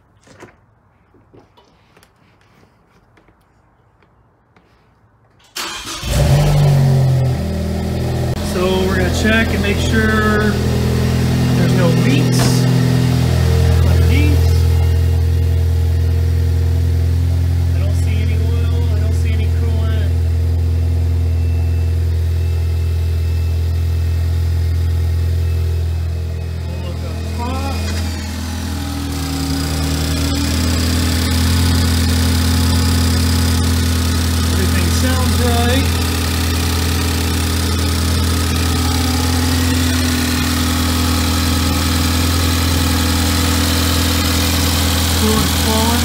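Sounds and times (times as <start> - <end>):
car engine idling: 5.6 - 46.0.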